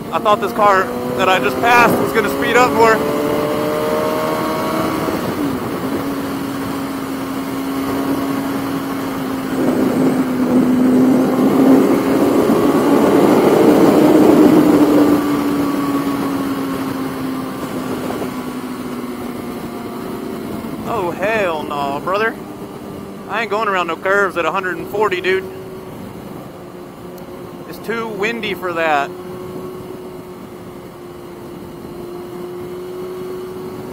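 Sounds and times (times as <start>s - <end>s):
motorcycle engine running hard: 0.0s - 33.9s
wind rushing over microphone: 0.0s - 33.9s.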